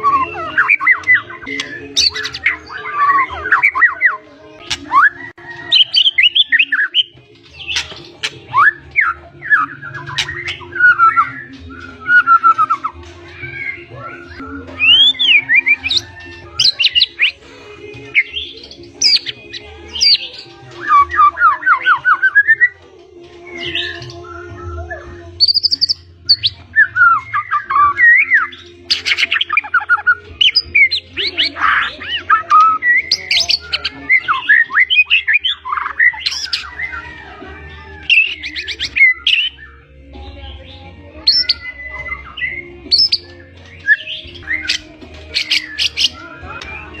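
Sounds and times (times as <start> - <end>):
bird singing whistles and trills: 0.0 - 17.4, 18.0 - 22.8, 23.4 - 37.3, 38.0 - 47.0.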